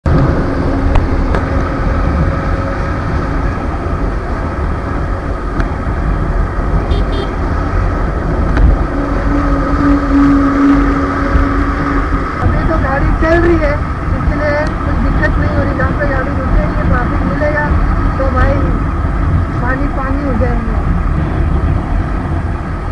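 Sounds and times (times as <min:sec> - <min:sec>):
low road rumble: 0:00.0 - 0:22.9
motorcycle engine drone: 0:00.0 - 0:22.9
wind rush on microphone: 0:00.0 - 0:22.9.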